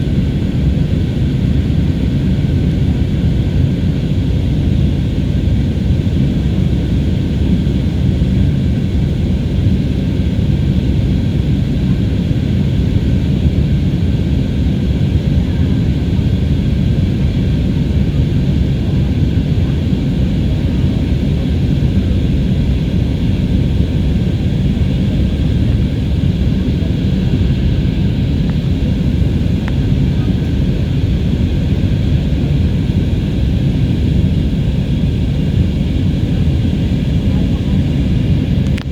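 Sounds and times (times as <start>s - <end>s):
airplane cabin engine noise: 0.0s - 38.9s.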